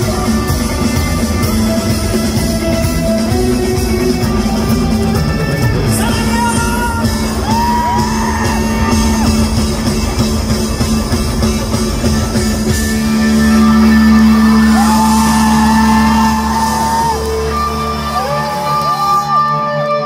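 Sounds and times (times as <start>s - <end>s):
live rock band with electric guitar: 0.0s - 20.0s.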